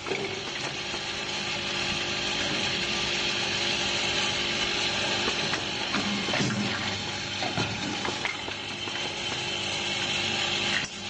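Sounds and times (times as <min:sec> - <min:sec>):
machine whirring and hissing: 0:00.0 - 0:11.0.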